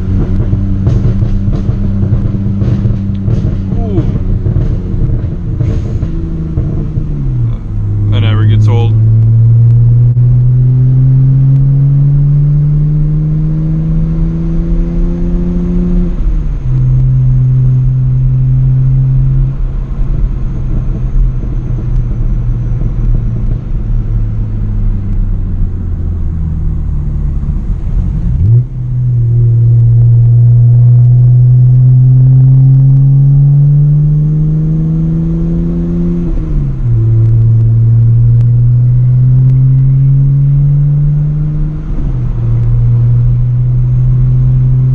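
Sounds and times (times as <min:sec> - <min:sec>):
loud car exhaust revving: 0:00.0 - 0:44.9.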